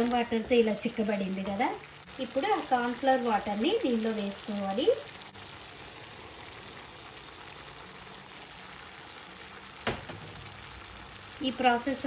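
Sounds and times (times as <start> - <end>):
mixture simmering in a pan: 0.0 - 12.0.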